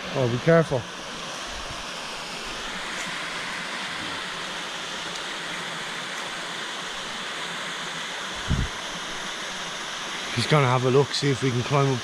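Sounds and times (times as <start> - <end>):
waterfall and stream rushing: 0.1 - 12.0.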